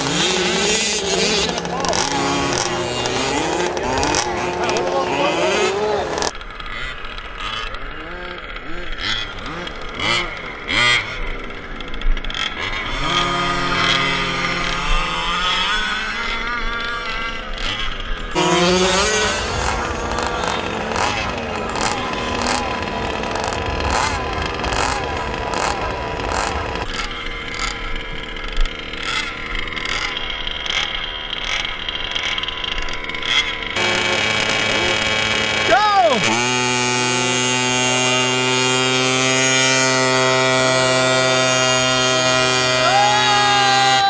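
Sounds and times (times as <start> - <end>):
small gas engine revving: 0.0 - 44.0.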